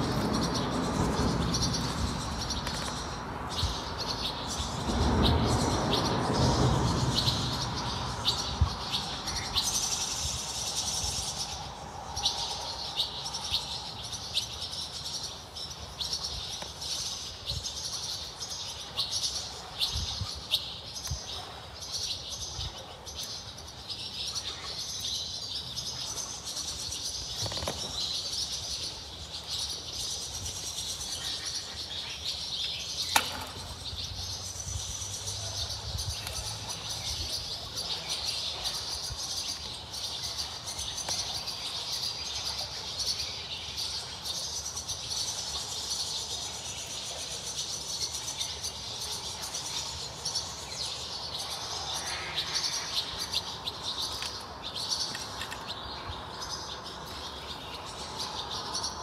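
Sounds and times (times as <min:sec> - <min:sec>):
birds singing and chirping: 0:00.0 - 0:59.0.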